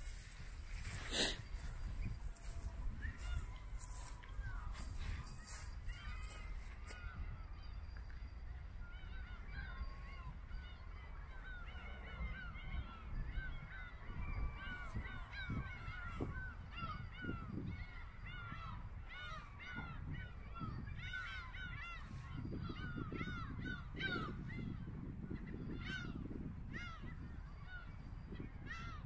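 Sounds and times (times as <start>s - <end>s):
flock of birds honking: 0.0s - 29.0s.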